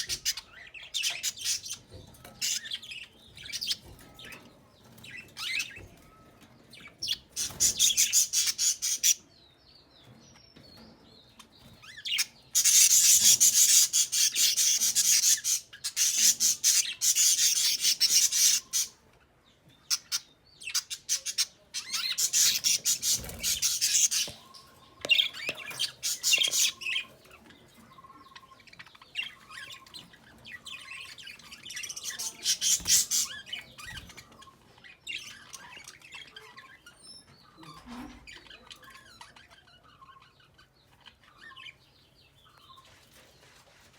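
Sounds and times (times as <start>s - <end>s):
bird chattering chirps: 0.0s - 4.4s, 6.8s - 9.3s, 11.4s - 19.0s, 19.9s - 42.8s.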